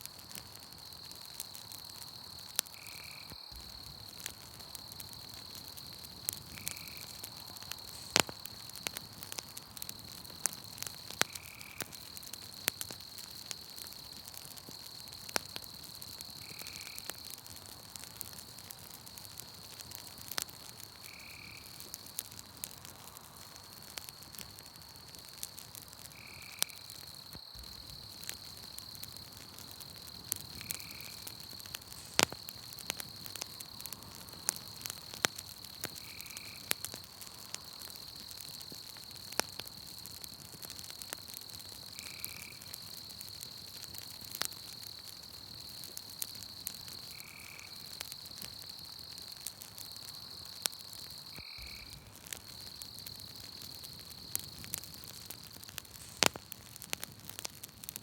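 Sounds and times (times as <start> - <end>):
insect trill: 0.0 - 17.4, 18.4 - 56.8
campfire crackling and popping: 0.0 - 58.0.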